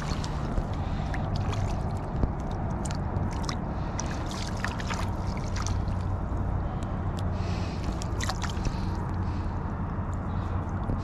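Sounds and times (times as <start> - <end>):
fish thrashing and water splashing: 0.0 - 9.5
steady low rumble: 0.0 - 11.0.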